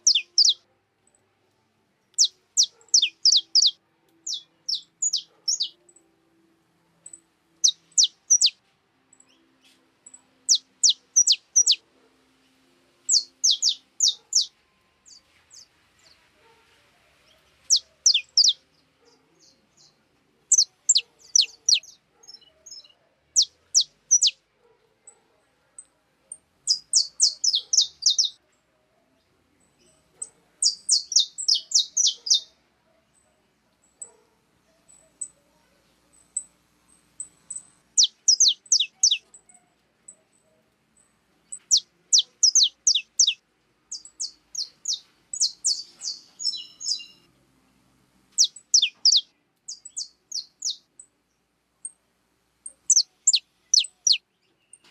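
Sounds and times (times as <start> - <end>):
small songbirds chirping: 0.0 - 1.3, 2.1 - 6.1, 7.0 - 11.8, 12.4 - 24.5, 25.7 - 28.4, 29.2 - 34.2, 34.8 - 52.0, 52.6 - 54.9.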